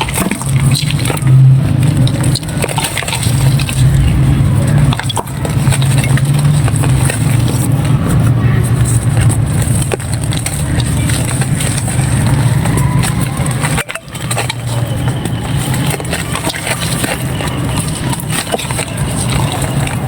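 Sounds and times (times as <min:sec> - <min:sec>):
dry clay crunching: 0:00.0 - 0:20.0
low engine-like hum: 0:00.0 - 0:20.0.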